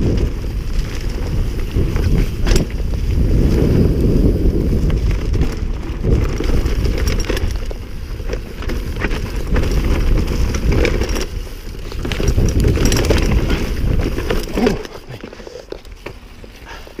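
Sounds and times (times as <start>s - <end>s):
bike rattling over bumps: 0.0s - 17.0s
wind buffeting microphone: 0.0s - 17.0s.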